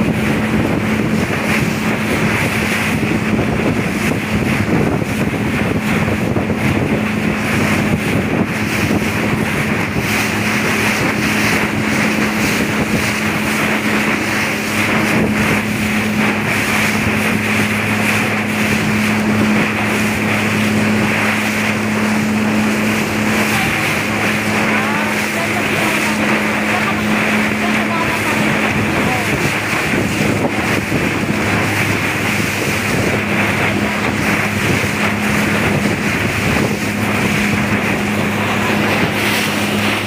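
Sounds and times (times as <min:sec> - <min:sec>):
rushing water: 0:00.0 - 0:40.0
speedboat engine droning: 0:00.0 - 0:40.0
wind on microphone: 0:00.0 - 0:40.0.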